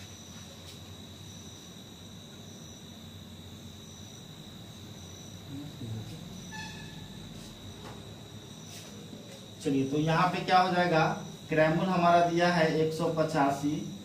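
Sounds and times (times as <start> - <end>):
crickets trilling: 0.0 - 14.0
higher insect trill: 0.0 - 14.0.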